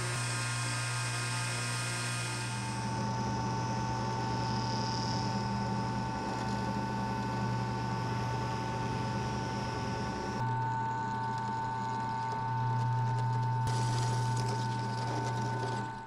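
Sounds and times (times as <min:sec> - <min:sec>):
electric motor humming and whining: 0:00.0 - 0:16.0.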